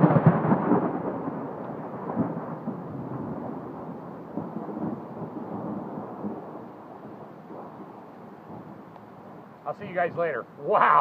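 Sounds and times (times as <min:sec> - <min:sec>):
thunderclap rumble: 0:00.0 - 0:10.3
heavy rain: 0:00.0 - 0:11.0.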